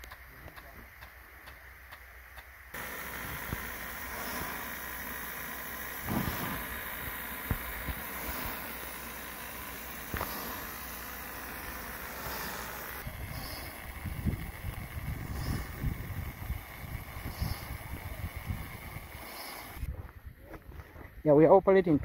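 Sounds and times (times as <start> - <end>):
sprinkler water jet rushing: 0.0 - 19.9
sprinkler thumps: 0.1 - 19.8.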